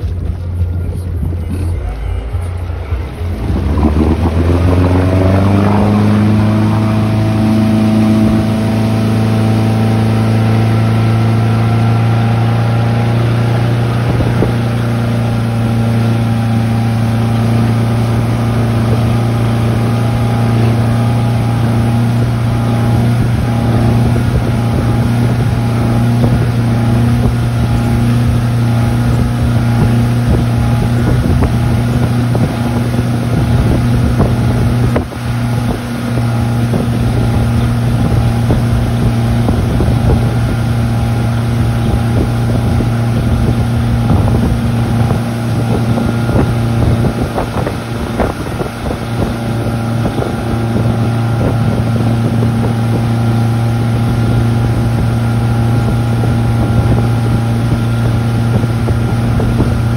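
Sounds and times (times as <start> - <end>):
motorboat engine speeding up: 0.0 - 59.9
wind noise on microphone: 0.0 - 59.9.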